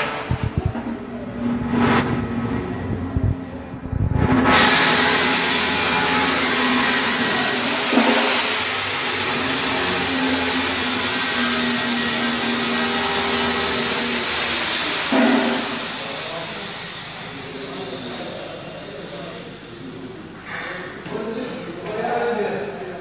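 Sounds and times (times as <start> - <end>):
milling machinery whirring: 0.0 - 18.6.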